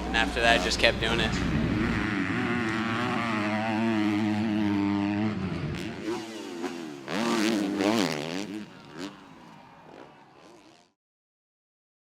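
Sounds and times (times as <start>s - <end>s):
motorbike engine revving: 0.0s - 10.9s.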